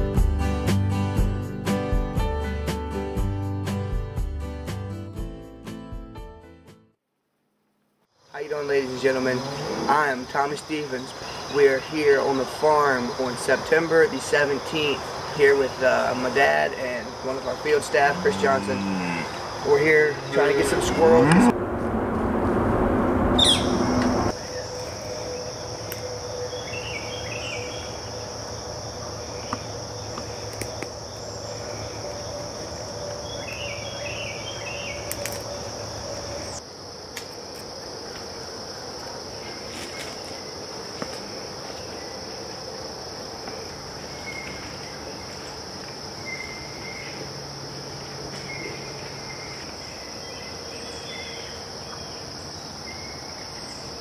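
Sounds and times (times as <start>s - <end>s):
insects droning high-pitched: 8.1s - 54.0s.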